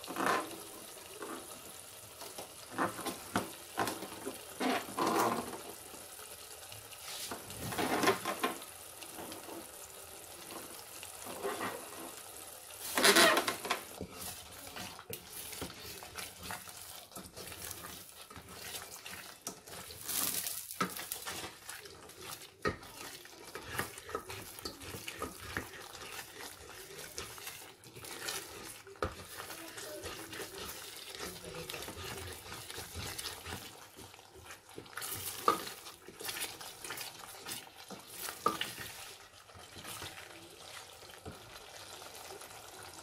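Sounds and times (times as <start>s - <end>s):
wooden spoon scraping a pot: 0.0s - 6.0s, 7.0s - 42.7s
food sizzling in a pot: 0.0s - 43.0s.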